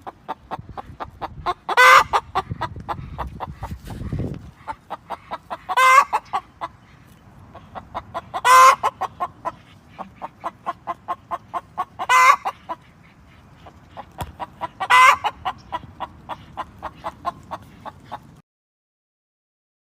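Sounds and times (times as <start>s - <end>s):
chicken squawking: 0.0s - 18.3s
chicken clucking: 0.0s - 18.4s.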